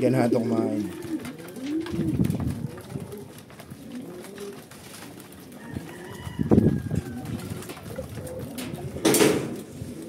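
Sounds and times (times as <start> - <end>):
pigeons cooing: 0.0 - 10.0
beaks pecking grain: 0.6 - 10.0.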